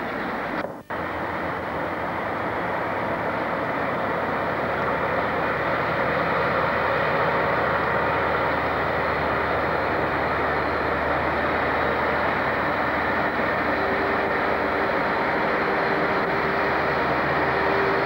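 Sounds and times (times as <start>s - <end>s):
diesel locomotive engine drone: 0.0s - 18.0s
rolling-stock rumble: 0.0s - 18.0s.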